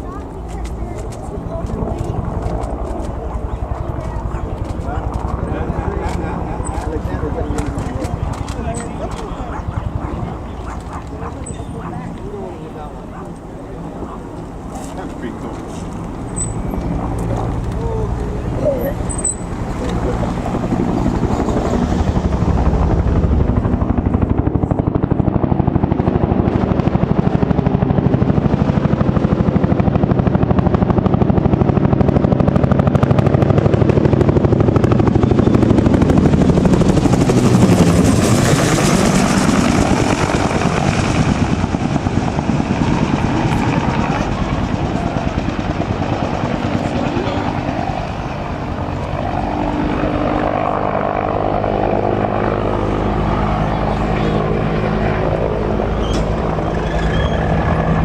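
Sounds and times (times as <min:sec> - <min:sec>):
helicopter flying past: 0:00.0 - 0:58.0.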